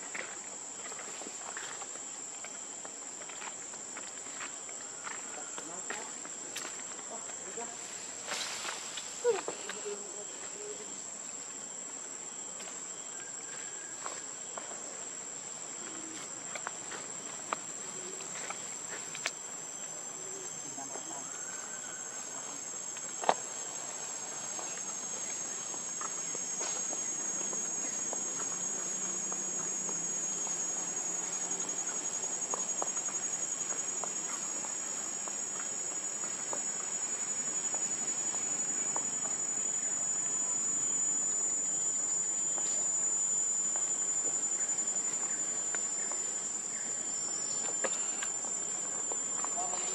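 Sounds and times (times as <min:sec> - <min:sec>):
high-pitched insect drone: 0:00.0 - 0:49.9
lower insect drone: 0:00.0 - 0:49.9.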